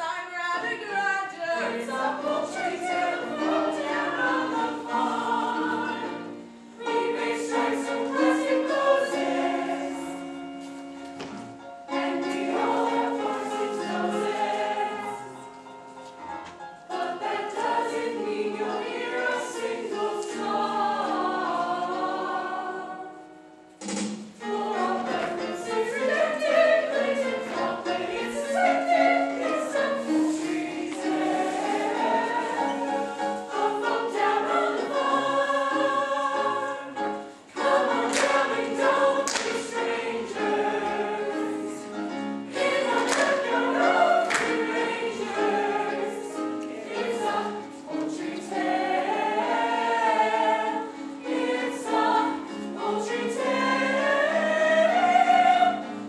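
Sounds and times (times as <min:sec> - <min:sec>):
chorus singing musical theatre: 0:00.0 - 0:56.0.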